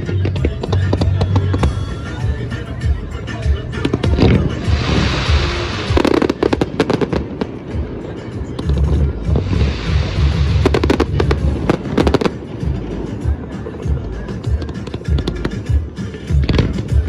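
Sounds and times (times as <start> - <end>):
music playing: 0.0 - 17.0
fireworks hissing and crackling: 3.3 - 17.0.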